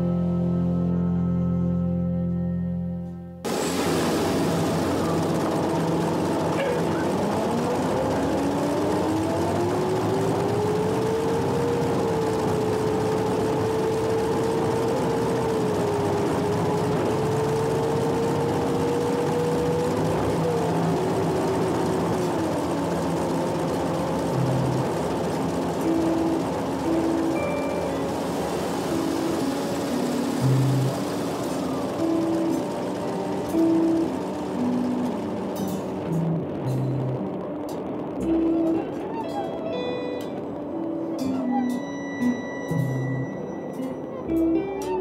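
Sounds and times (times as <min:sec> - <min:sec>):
rumble of moving vehicle: 0:00.0 - 0:45.0
vehicle motor whine: 0:00.0 - 0:45.0.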